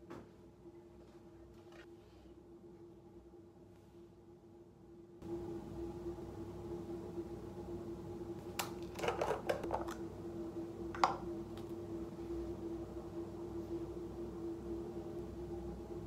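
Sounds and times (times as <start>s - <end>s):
low hum: 0.5s - 16.0s.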